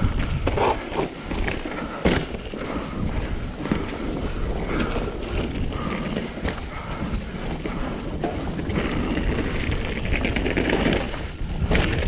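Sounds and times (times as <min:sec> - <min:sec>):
bike knocking and clattering: 0:00.0 - 0:12.0
bike tyres rumbling on dirt: 0:00.0 - 0:12.0.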